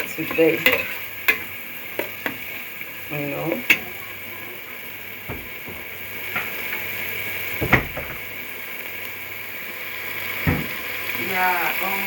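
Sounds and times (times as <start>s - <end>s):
stew sizzling in a pot: 0.0s - 12.0s.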